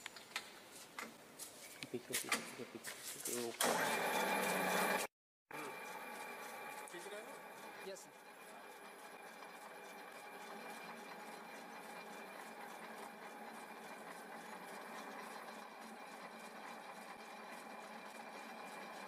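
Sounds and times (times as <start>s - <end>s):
lathe running: 3.6s - 19.0s.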